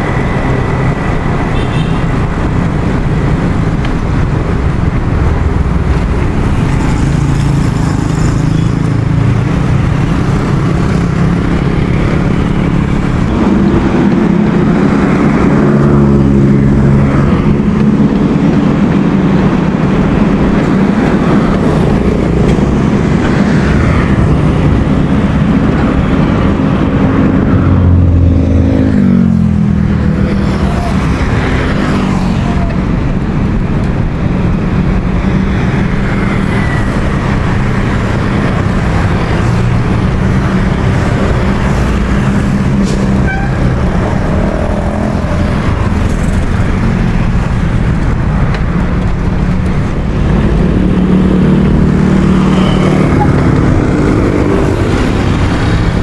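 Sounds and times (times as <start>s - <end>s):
motorcycle and car engines: 0.0s - 56.0s.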